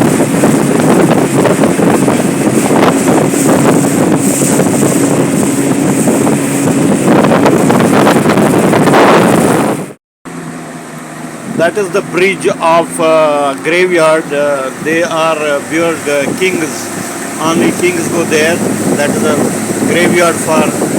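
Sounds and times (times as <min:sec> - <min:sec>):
boat engine humming: 0:00.0 - 0:20.9
wind buffeting microphone: 0:00.0 - 0:20.9.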